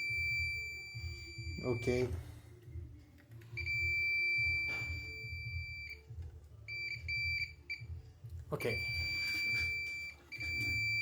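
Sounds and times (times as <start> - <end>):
multimeter continuity beeps: 0.0 - 2.1, 3.6 - 8.0, 8.6 - 11.0.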